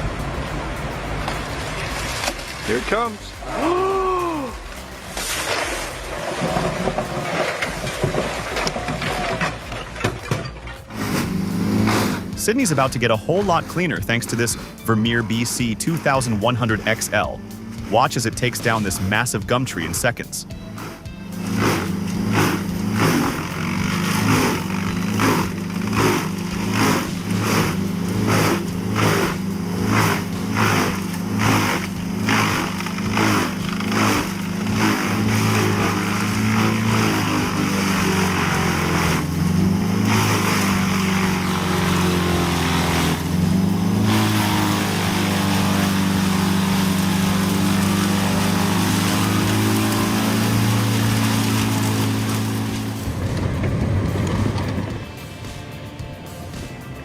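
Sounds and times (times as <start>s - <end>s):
wood chipper engine running: 0.0s - 56.8s.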